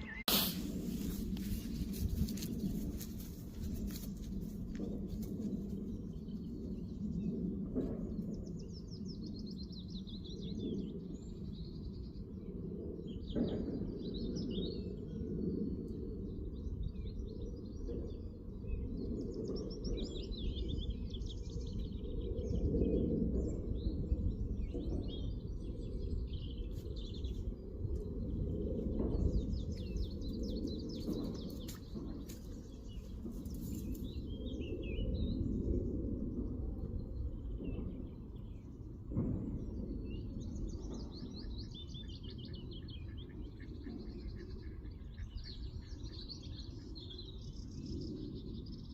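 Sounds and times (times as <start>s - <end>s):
steady low rumble: 0.0s - 48.9s.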